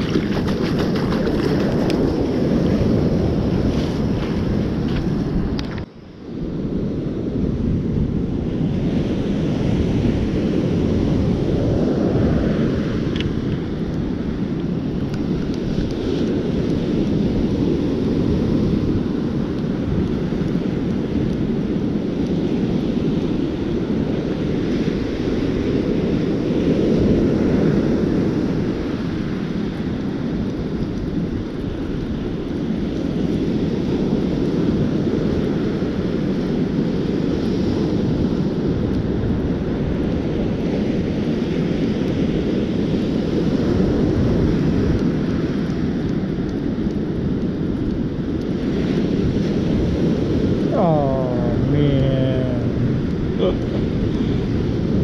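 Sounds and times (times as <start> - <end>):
ocean surf breaking: 0.0 - 46.8, 48.5 - 55.0
wind buffeting microphone: 0.0 - 55.0.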